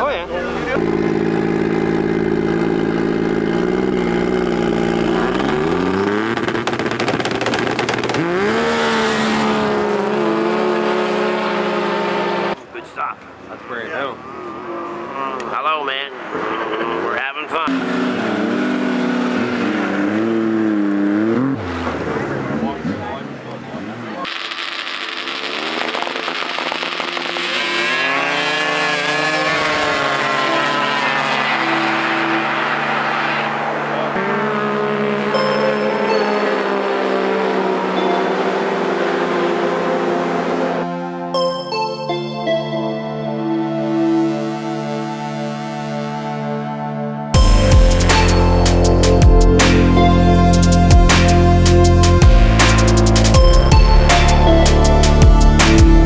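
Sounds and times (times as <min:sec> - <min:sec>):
snowmobile engine revving: 0:00.0 - 0:12.6, 0:14.0 - 0:41.4, 0:43.7 - 0:56.0.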